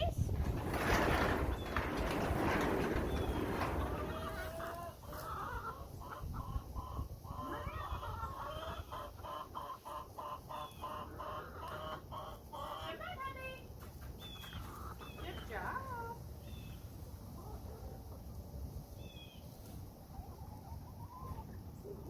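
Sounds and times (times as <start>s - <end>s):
hens clucking: 0.0s - 13.5s, 14.1s - 16.2s, 19.6s - 22.0s.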